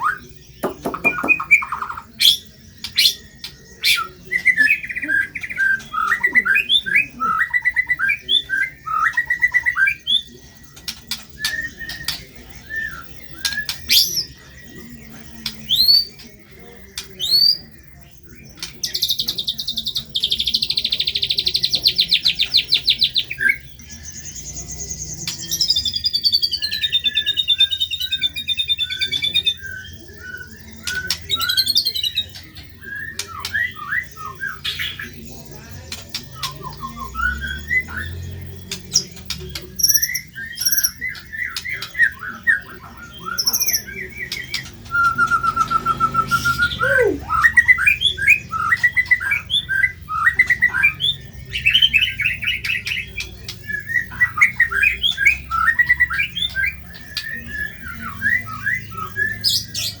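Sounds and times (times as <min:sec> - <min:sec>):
songbird singing harsh phrases: 0:00.0 - 1:00.0.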